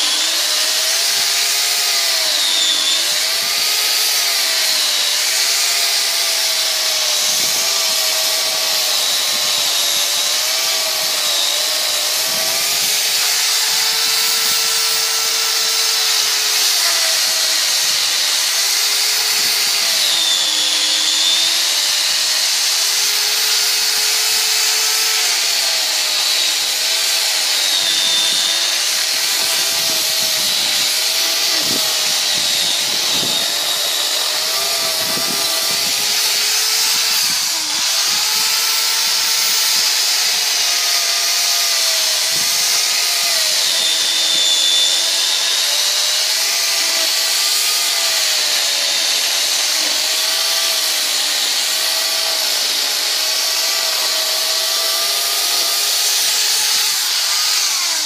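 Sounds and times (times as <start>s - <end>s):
electric chainsaw cutting log: 0.0s - 58.0s.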